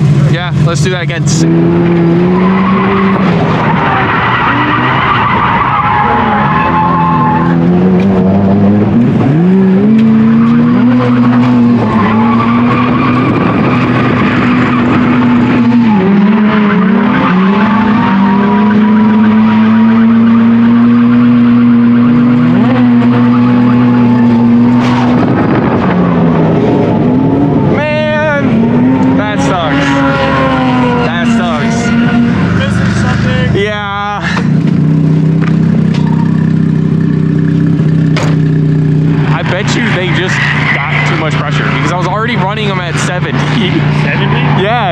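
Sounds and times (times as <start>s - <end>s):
rotary engine at high revs: 0.0s - 44.9s
tires skidding and squealing: 1.0s - 44.9s.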